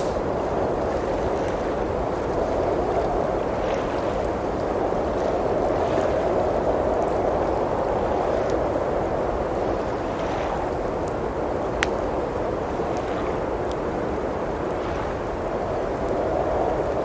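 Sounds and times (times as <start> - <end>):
howling blizzard wind: 0.0 - 17.0
wood fire crackling: 0.0 - 17.0.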